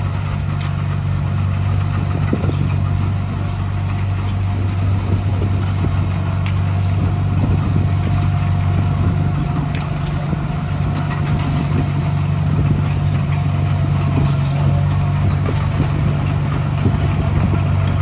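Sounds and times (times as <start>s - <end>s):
heavy diesel machinery engine: 0.0s - 18.0s
light clanks: 0.0s - 18.0s
thin steady whine: 0.0s - 18.0s.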